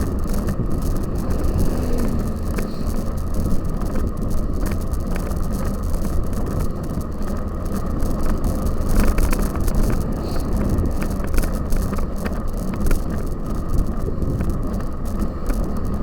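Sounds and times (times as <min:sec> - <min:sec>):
bicycle rattling clicks: 0:00.0 - 0:16.0
rumble of wind and tyres: 0:00.0 - 0:16.0.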